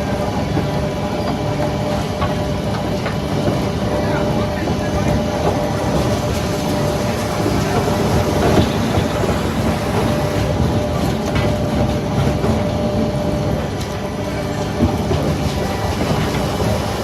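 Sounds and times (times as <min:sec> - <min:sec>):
faint constant hum: 0:00.0 - 0:17.0
sawmill machinery clatter and rumble: 0:00.0 - 0:17.0.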